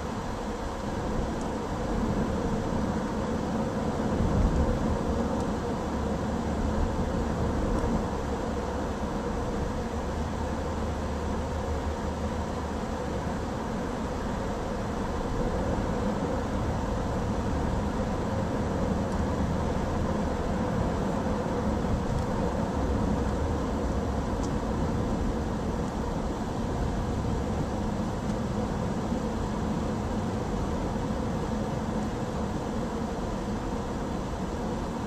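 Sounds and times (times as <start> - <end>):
car road noise and engine hum: 0.0 - 35.0.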